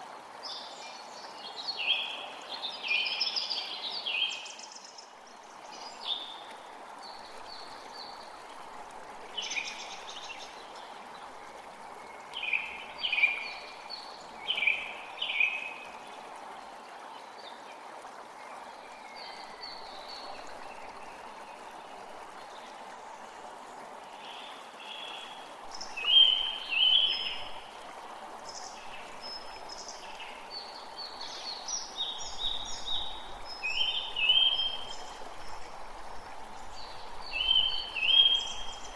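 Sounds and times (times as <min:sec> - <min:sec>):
creek running: 0:00.0 - 0:38.9
songbirds chirping: 0:00.4 - 0:38.9.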